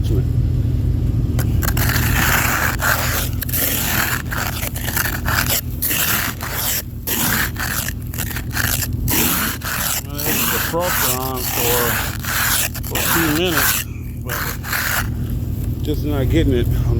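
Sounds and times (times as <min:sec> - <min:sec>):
ice scraper scraping glass: 0:01.4 - 0:15.3.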